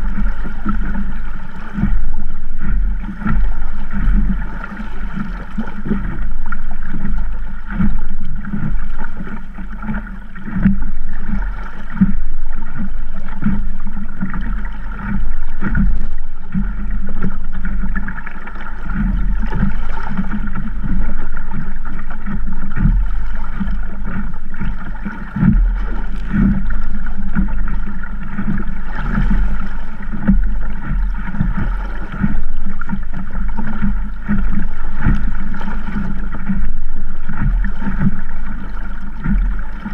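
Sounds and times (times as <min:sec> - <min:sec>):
water splashing along hull: 0:00.0 - 0:39.9.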